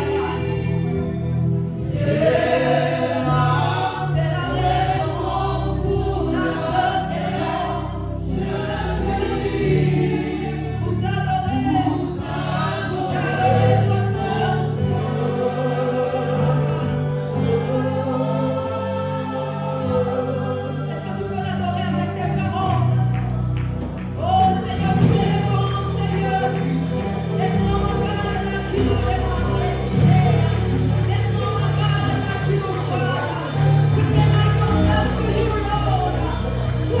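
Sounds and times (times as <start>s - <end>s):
choir singing: 0.0s - 21.7s, 24.5s - 37.0s
keyboard and bass: 0.0s - 37.0s.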